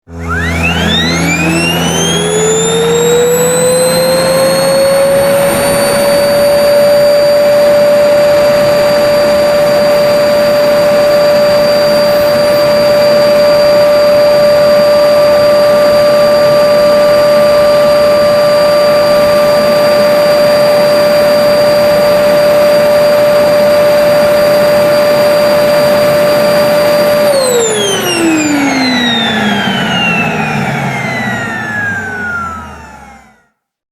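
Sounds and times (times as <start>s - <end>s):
vacuum cleaner motor whine: 0.0s - 33.6s.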